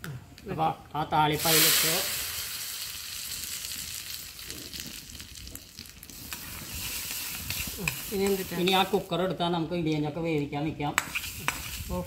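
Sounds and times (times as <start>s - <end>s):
hot oil and spices sizzling: 1.2s - 10.2s, 10.8s - 12.0s.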